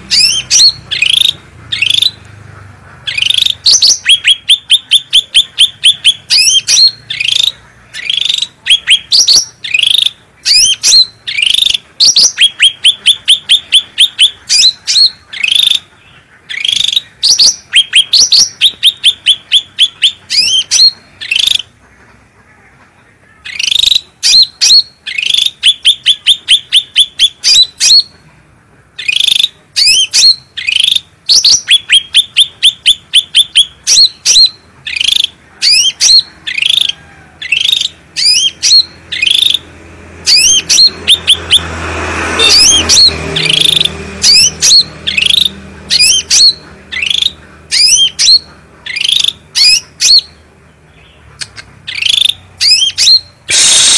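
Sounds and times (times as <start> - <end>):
songbird singing: 0.0 - 53.9.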